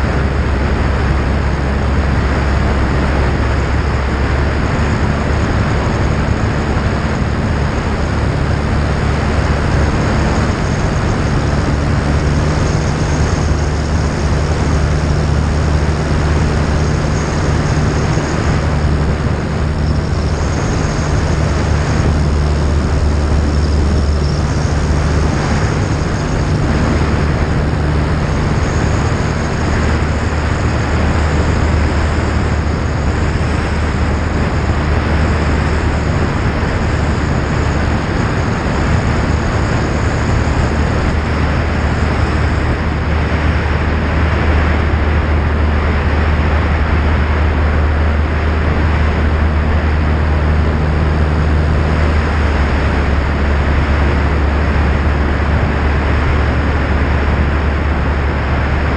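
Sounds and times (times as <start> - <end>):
aircraft engine and propeller droning: 0.0 - 58.9
wind rush over camera: 0.0 - 58.9.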